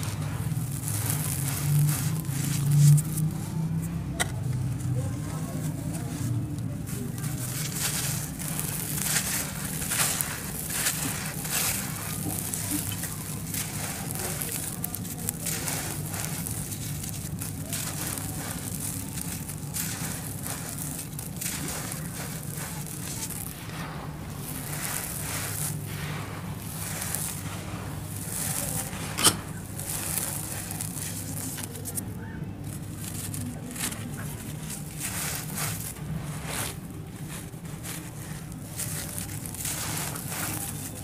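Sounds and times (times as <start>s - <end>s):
blocks crackling and crumbling: 0.0s - 41.0s
grit sifting: 0.0s - 41.0s
steady low hum: 0.0s - 41.0s.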